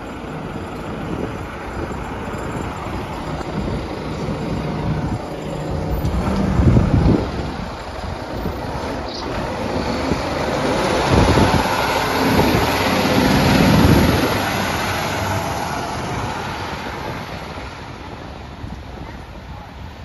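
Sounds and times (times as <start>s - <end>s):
fire truck diesel engine passing: 0.0s - 20.0s.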